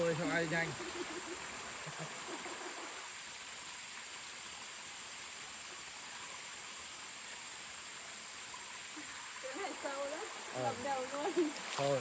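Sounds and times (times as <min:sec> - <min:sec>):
high-pitched insect chorus: 0:00.0 - 0:12.0
mountain stream rushing: 0:00.0 - 0:12.0.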